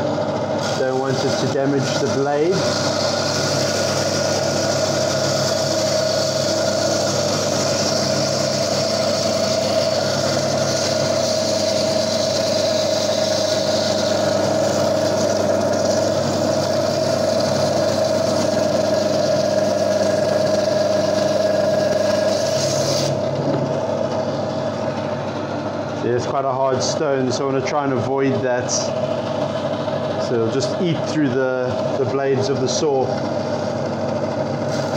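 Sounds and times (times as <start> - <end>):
bandsaw motor hum: 0.0 - 34.9.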